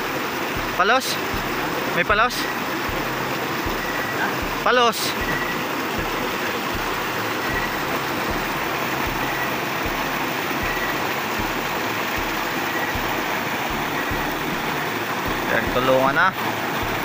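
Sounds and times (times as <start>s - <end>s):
water rushing into a rocky pool: 0.0s - 17.0s.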